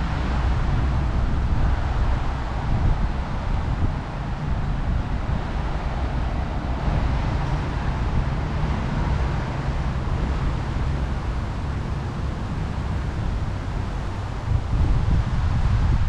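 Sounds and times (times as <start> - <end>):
city traffic hum: 0.0 - 16.0
wind buffeting microphone: 0.0 - 16.0.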